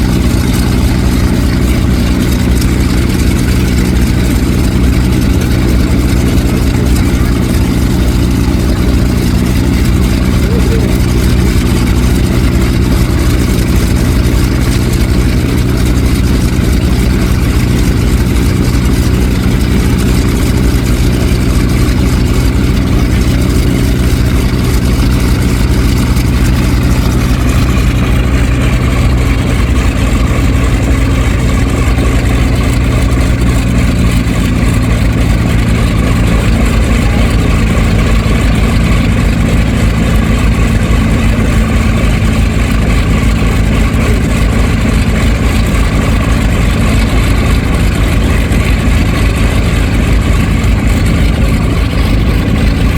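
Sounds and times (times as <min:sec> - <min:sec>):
radial aircraft engine droning: 0:00.0 - 0:52.9.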